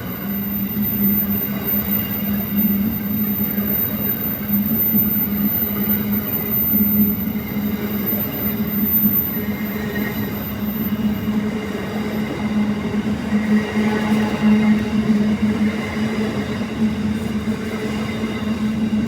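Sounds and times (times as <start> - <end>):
train rolling by: 0.0 - 19.0.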